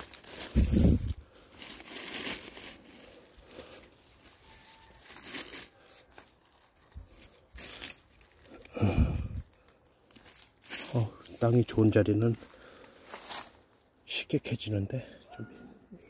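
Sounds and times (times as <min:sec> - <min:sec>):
hands scraping soil and leaves: 0:00.0 - 0:13.9.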